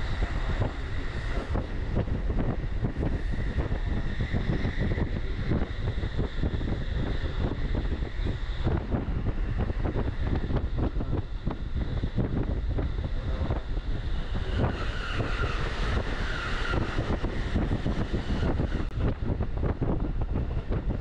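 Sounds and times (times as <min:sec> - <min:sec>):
train rumble and wheel knocking: 0:00.0 - 0:21.0.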